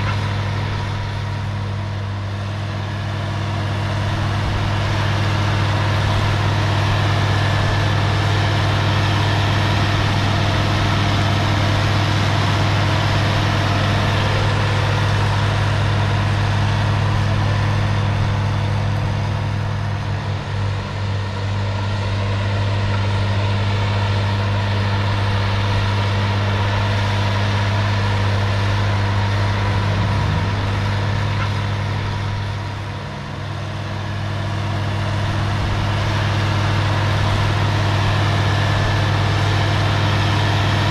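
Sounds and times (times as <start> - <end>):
diesel tractor engine under load: 0.0 - 40.9.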